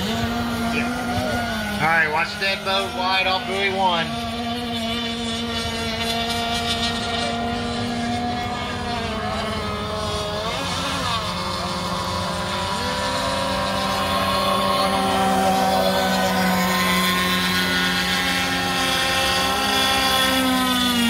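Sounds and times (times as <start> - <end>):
model boat engines whining: 0.0 - 21.0.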